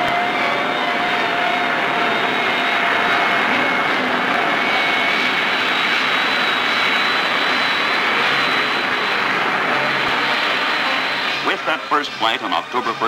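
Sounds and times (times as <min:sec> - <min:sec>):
high engine whines: 0:00.0 - 0:13.0
jet engine roar: 0:00.0 - 0:13.0.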